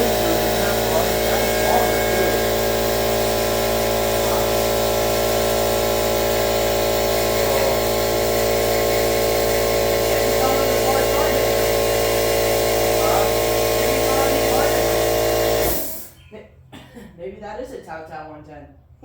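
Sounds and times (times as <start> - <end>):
small motor humming: 0.0 - 16.2.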